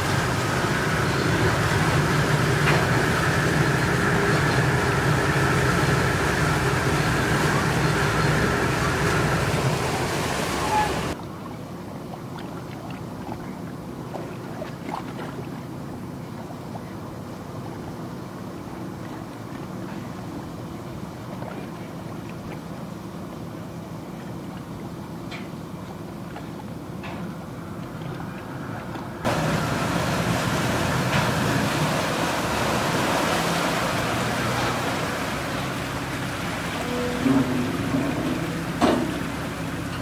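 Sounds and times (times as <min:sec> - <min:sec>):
boat engine humming: 0:00.0 - 0:40.0
waterside noise: 0:00.0 - 0:40.0.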